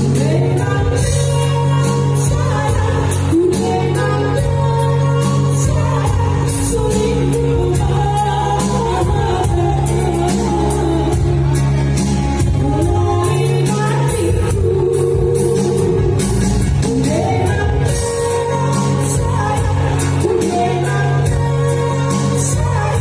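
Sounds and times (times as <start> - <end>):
instrumental backing with steady beat: 0.0 - 23.0
woman singing: 0.0 - 23.0.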